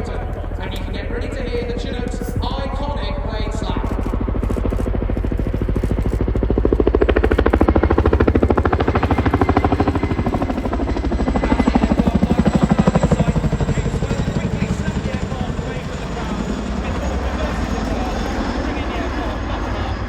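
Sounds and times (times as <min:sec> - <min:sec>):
helicopter rotor blades slapping: 0:00.0 - 0:20.0.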